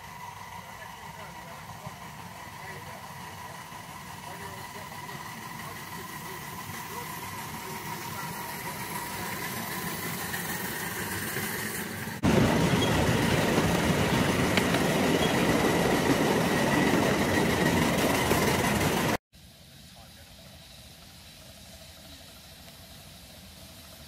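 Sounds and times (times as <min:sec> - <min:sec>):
miniature steam train running: 0:00.0 - 0:24.0.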